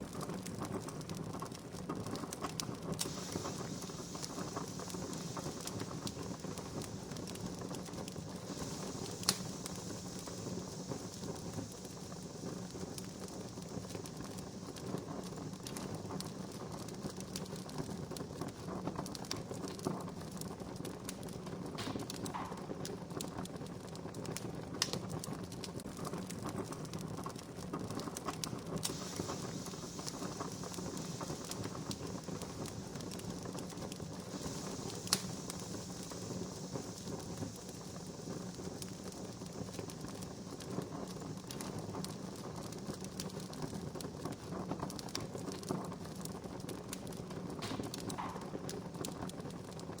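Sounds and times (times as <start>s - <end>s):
campfire crackling: 0.0s - 50.0s
soft fire hiss: 0.0s - 50.0s
loud fire pops: 0.1s - 50.0s.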